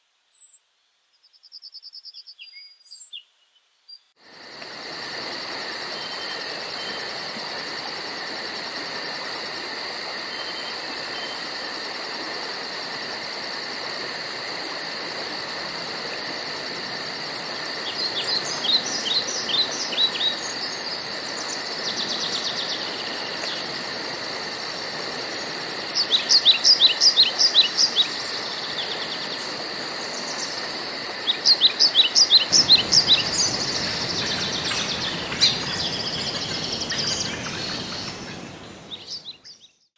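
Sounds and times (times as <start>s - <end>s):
pulsing insect drone: 4.2s - 39.2s.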